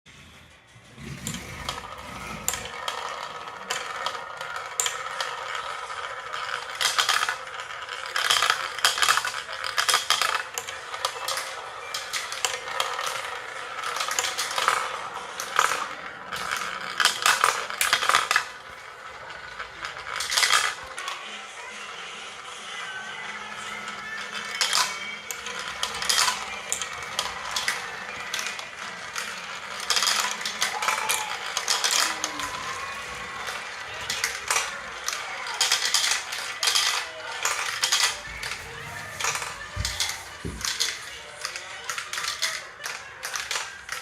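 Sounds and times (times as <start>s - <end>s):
marbles rolling down marble run: 0.2s - 44.0s
marbles clicking and clacking: 1.0s - 44.0s.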